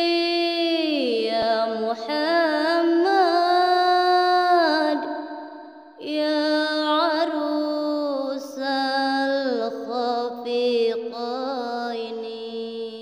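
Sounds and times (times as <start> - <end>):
boy chanting melodic recitation: 0.0 - 5.1, 6.0 - 13.0.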